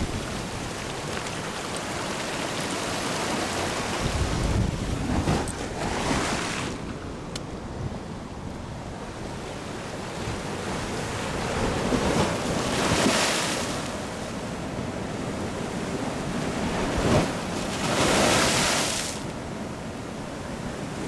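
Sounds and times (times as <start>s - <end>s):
sea waves surging over rocks: 0.0s - 7.7s, 8.6s - 21.0s.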